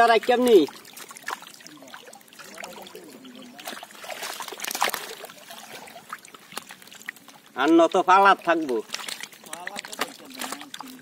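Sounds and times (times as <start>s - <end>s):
water splashing around fish: 0.0s - 11.0s.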